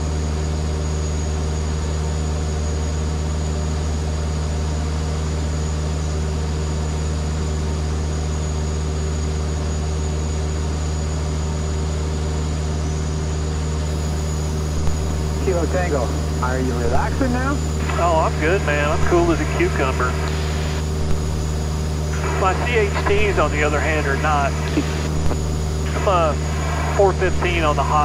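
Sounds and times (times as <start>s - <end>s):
plane engine and propeller droning: 0.0s - 28.0s.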